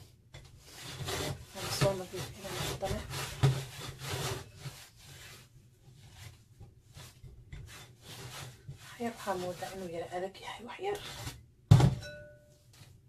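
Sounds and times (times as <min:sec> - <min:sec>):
hands kneading dough: 0:00.0 - 0:11.5.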